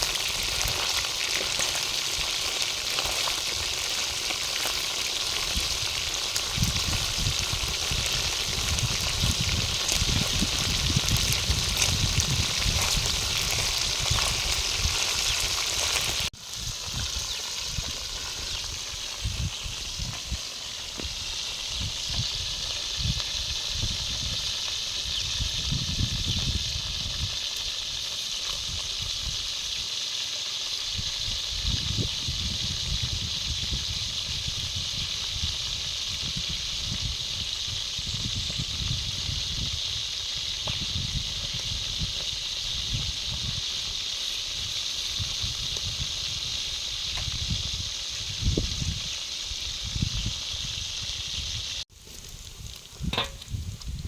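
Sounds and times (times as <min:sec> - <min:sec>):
food sizzling in oil: 0:00.0 - 0:54.0
steady hiss: 0:05.0 - 0:54.0.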